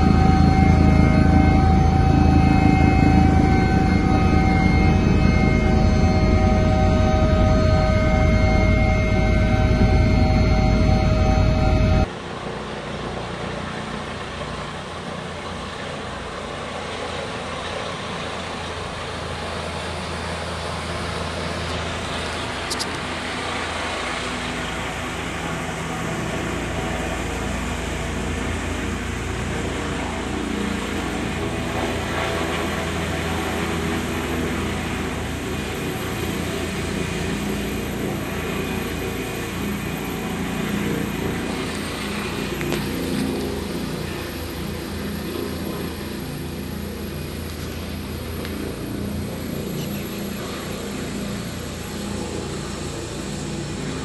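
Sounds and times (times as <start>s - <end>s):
helicopter rotor and turbine engines: 0.0s - 54.0s.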